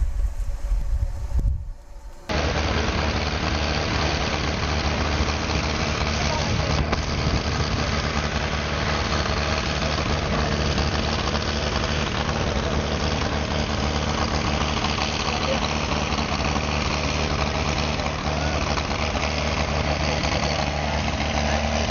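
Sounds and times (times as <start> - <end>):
heavy machine engine running: 0.0 - 21.9.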